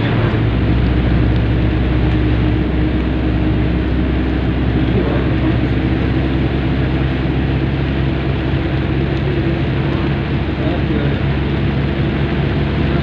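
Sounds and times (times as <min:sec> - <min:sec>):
engine and road drone: 0:00.0 - 0:13.0.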